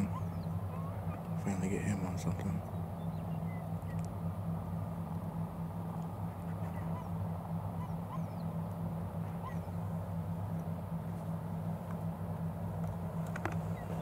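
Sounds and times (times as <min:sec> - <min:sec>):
distant bird calls: 0:00.0 - 0:14.0
steady low hum: 0:00.0 - 0:14.0.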